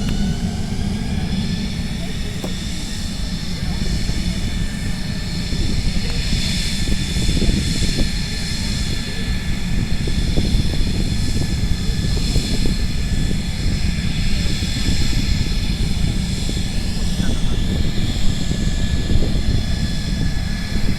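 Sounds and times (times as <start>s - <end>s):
jet engine whine and rumble: 0.0s - 20.9s.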